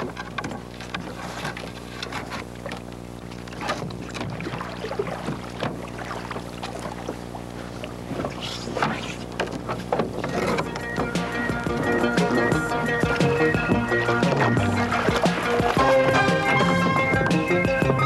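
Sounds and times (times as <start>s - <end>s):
paddle and hull splashes and knocks: 0.0s - 18.0s
steady low hum: 0.0s - 18.0s.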